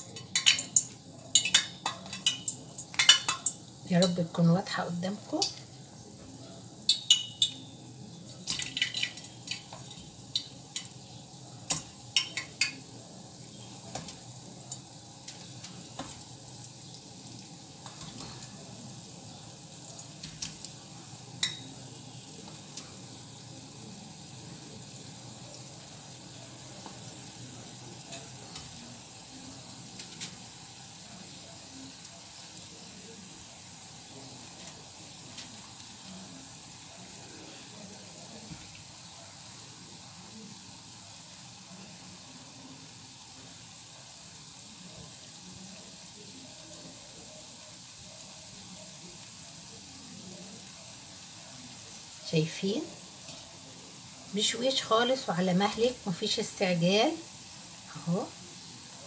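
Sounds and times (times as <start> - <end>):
batter sizzling in oil: 0.0 - 59.0.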